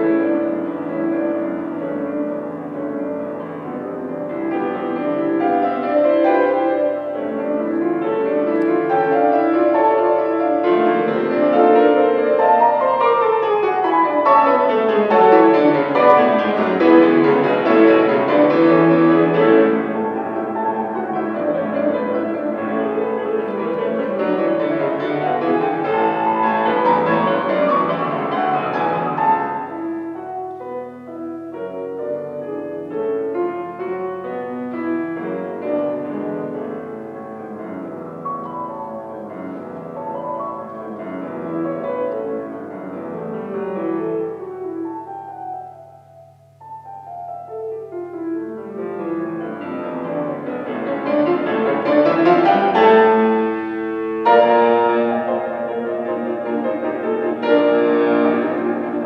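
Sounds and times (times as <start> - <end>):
classical solo piano: 0.0 - 59.0.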